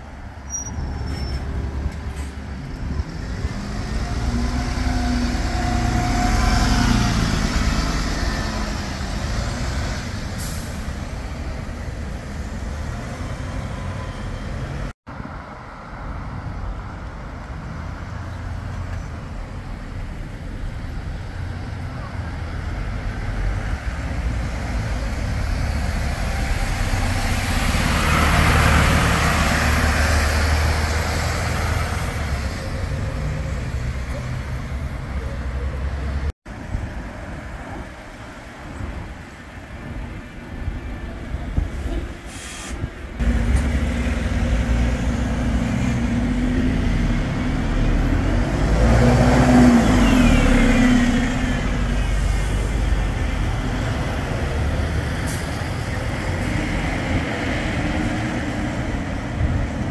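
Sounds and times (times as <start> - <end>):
bus engine pulling away: 0.0 - 59.9
bus passing: 0.0 - 59.9.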